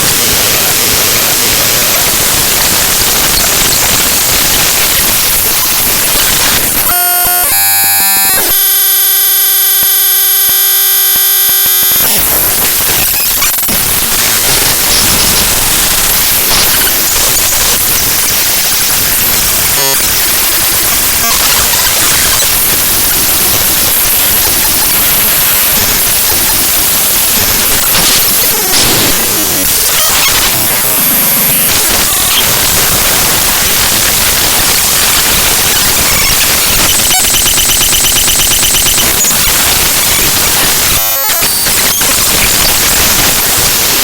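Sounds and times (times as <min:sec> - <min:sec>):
dense static noise: 0:00.0 - 0:44.0
harsh buzz of stacked tones: 0:00.0 - 0:44.0.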